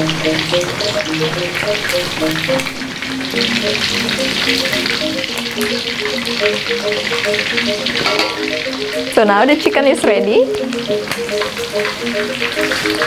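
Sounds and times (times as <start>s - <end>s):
chicken deep-frying in oil: 0.0s - 13.0s
light background music: 0.0s - 13.0s.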